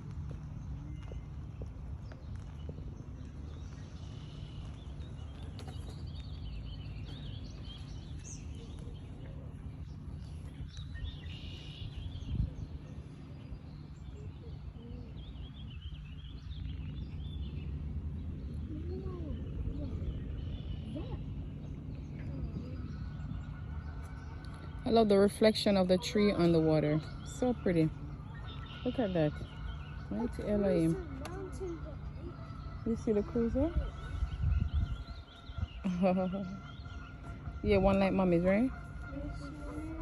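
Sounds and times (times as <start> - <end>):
small birds chirping: 0.0 - 40.0
steady low rumble: 0.0 - 40.0.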